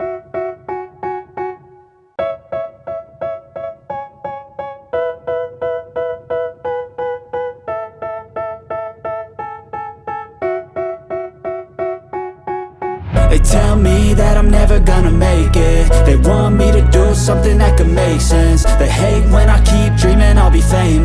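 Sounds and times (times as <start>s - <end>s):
repeating piano-like keyboard music: 0.0s - 21.0s.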